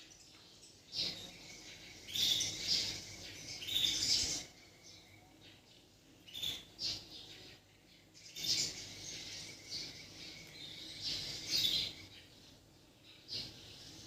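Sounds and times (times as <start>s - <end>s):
bird singing high phrases: 0.0s - 14.0s.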